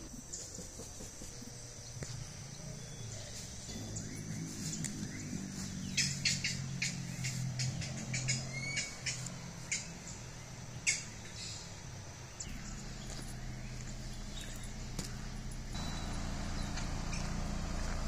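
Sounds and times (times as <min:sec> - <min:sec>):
birds chirping and squawking: 0:00.0 - 0:18.0
low steady hum: 0:00.0 - 0:18.0.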